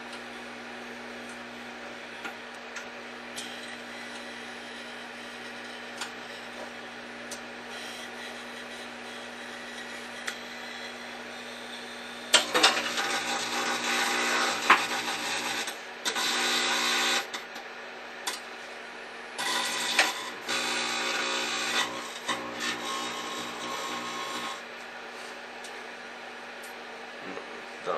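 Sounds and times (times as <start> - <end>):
microwave oven hum: 0.0 - 27.9.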